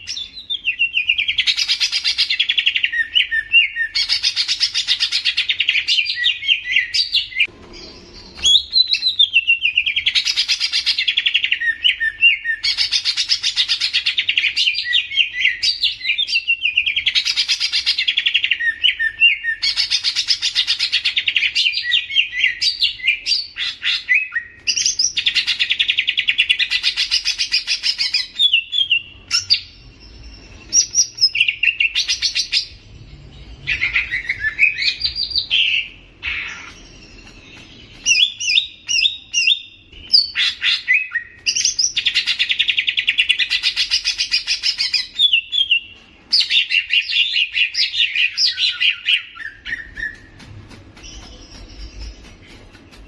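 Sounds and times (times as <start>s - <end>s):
songbird singing trills: 0.0s - 52.8s.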